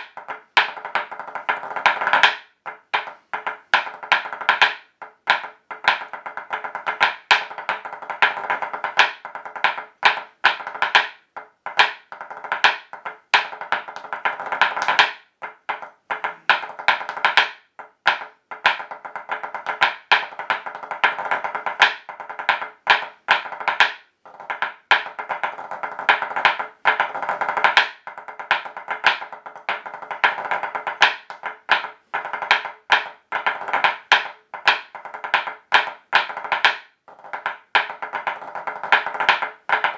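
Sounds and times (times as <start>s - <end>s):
dance shoes tapping on wood: 0.0s - 39.9s.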